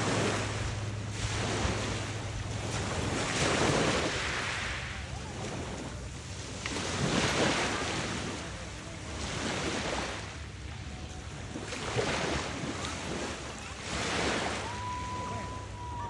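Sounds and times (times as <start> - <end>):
small waves breaking on beach: 0.0 - 16.0.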